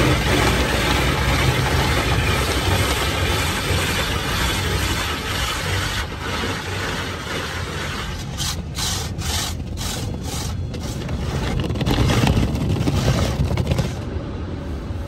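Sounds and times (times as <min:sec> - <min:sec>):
car wash brushes swishing: 0:00.0 - 0:14.0.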